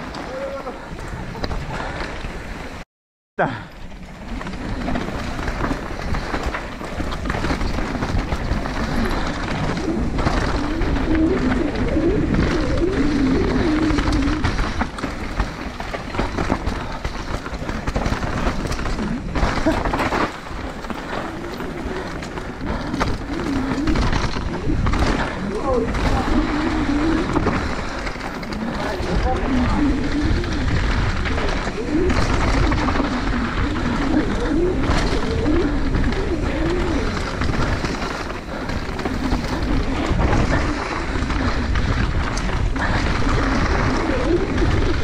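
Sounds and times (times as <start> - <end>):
bike rattling and knocking: 3.4 - 45.0
tyres over dirt and rock: 3.4 - 45.0
wavering low hum: 3.9 - 45.0.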